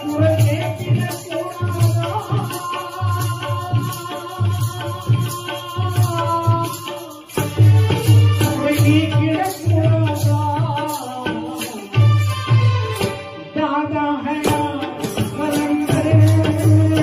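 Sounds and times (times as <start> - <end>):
man singing into microphone: 0.0 - 17.0
tabla drumming: 0.0 - 17.0.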